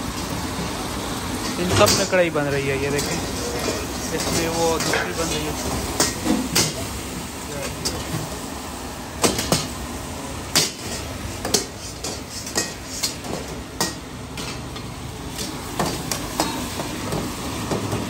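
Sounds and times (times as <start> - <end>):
curry sizzling in pans: 0.0 - 18.0
metal utensils clanking on woks: 1.4 - 8.4, 9.2 - 9.8, 10.5 - 18.0.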